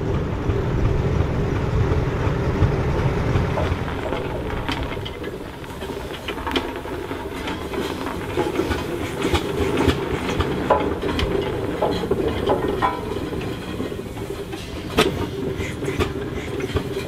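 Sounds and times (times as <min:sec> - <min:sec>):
steam roller rumbling: 0:00.0 - 0:17.0
iron rolls clanking: 0:01.1 - 0:17.0.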